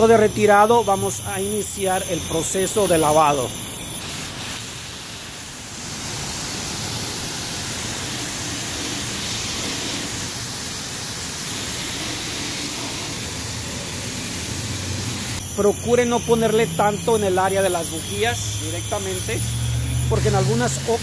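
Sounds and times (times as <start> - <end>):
water spraying from wand: 0.0 - 21.0.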